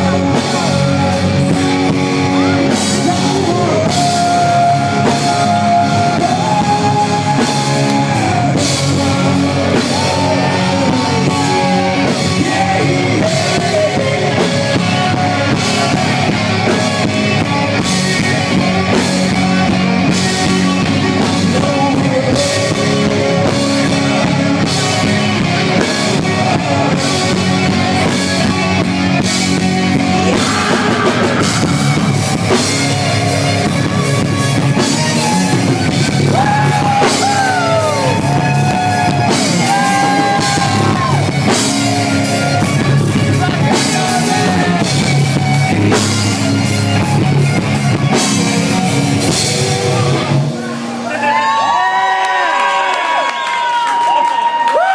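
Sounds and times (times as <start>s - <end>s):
drum kit: 0.0s - 51.2s
electric guitar: 0.0s - 54.9s.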